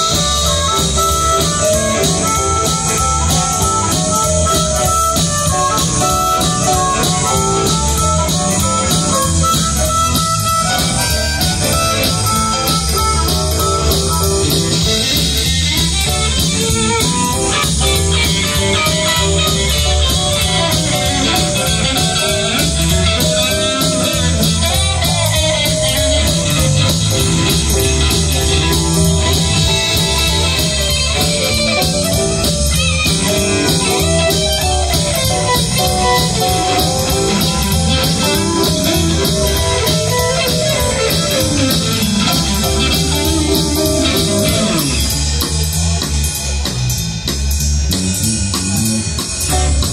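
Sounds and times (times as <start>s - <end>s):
bass guitar: 0.0s - 49.9s
drum kit: 0.0s - 49.9s
electric guitar: 0.0s - 49.9s
keyboard: 0.0s - 49.9s.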